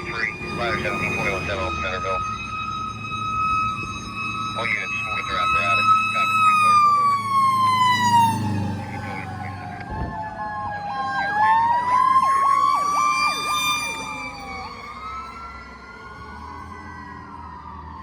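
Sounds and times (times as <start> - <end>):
wailing sirens: 0.0 - 18.0
yelping siren: 0.0 - 18.0.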